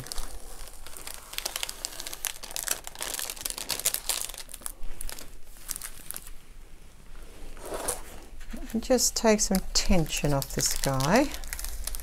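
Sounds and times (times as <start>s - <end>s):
plastic film crinkling: 0.0s - 6.4s, 7.6s - 12.0s.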